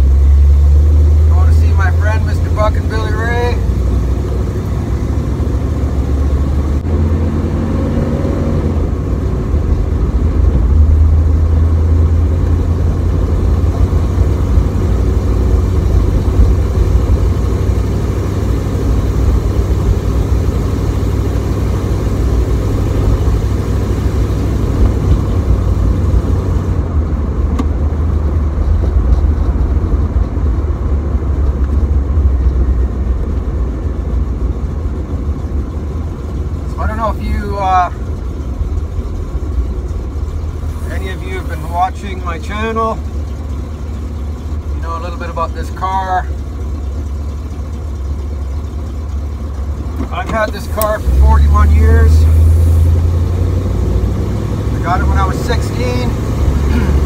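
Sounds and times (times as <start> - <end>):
car engine drone: 0.0 - 57.0
road noise inside car: 0.0 - 57.0.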